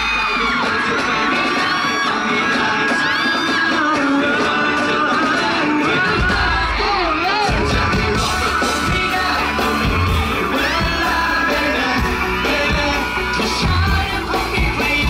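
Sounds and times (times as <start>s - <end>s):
audience shouts and whoops: 0.0s - 15.0s
live band playing pop song: 0.0s - 15.0s
men singing into microphones: 0.0s - 15.0s.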